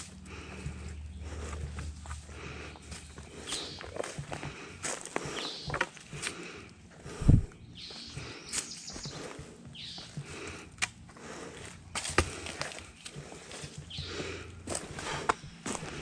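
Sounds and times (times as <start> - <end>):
footsteps walking outdoors: 0.0 - 16.0.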